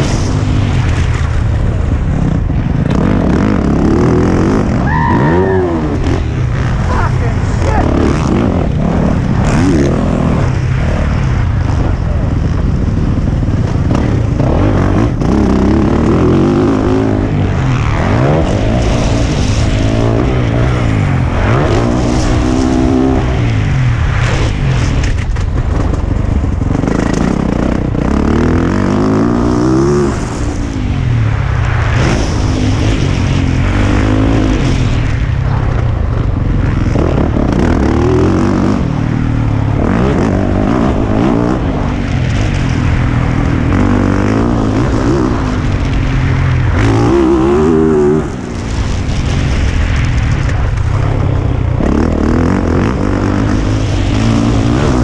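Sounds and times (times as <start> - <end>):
motocross bike engine revving: 0.0 - 31.0, 36.1 - 55.0.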